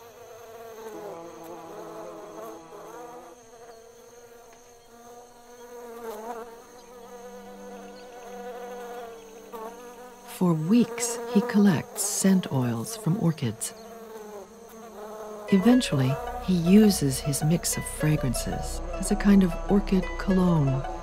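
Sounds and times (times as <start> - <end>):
bee buzzing in flight: 0.0 - 21.0.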